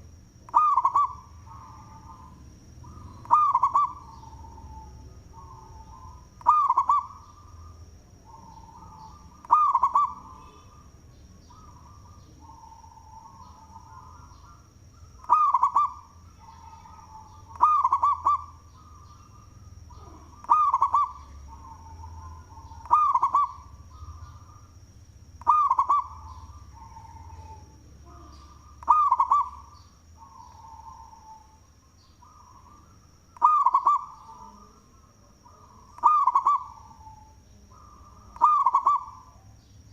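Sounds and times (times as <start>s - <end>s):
dove cooing: 0.0s - 39.7s
thin steady high tone: 0.0s - 39.9s.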